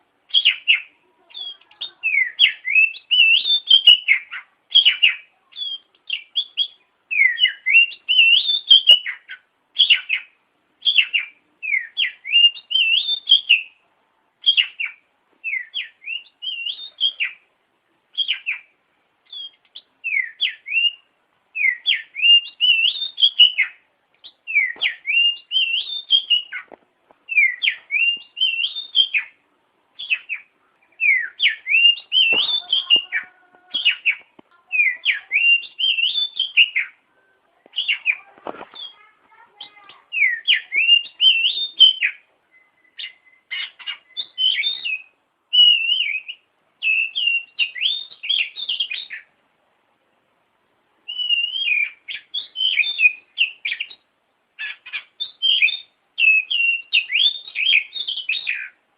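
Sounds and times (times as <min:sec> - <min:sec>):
bird singing whistled phrases: 0:00.3 - 0:13.8, 0:14.4 - 0:17.4, 0:18.1 - 0:26.7, 0:27.3 - 0:29.4, 0:30.0 - 0:37.0, 0:37.8 - 0:39.0, 0:39.6 - 0:49.3, 0:51.1 - 0:54.0, 0:54.6 - 0:58.8.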